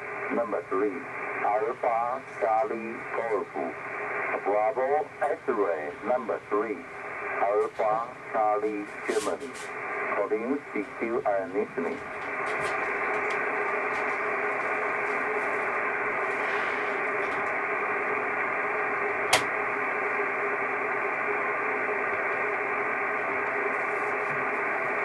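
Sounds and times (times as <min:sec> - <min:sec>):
radio receiver hiss: 0:00.0 - 0:25.0.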